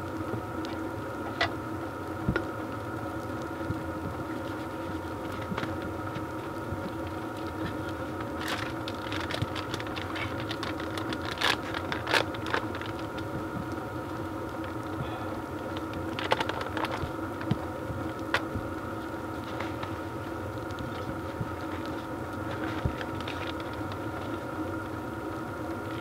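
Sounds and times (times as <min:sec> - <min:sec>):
diesel heater humming: 0:00.0 - 0:26.0.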